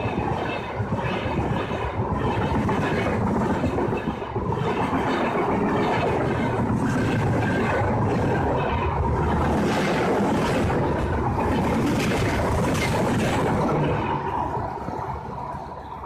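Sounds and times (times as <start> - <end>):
clatter over rail joints: 0.0 - 15.1
train wheels rumbling on rail: 0.0 - 16.0.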